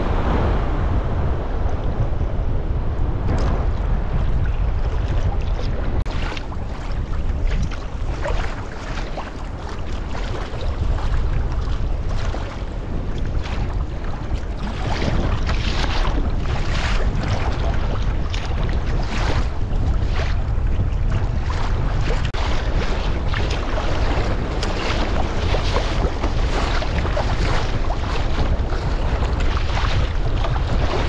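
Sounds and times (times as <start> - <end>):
wind buffeting microphone: 0.0 - 31.0
water splashing against kayak hull: 2.9 - 31.0.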